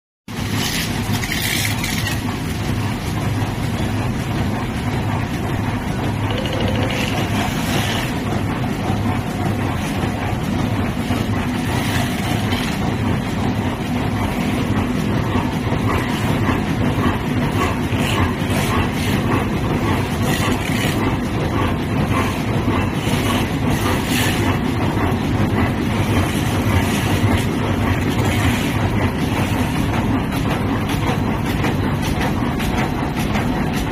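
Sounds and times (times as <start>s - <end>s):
machine mechanical drone: 0.3s - 33.9s.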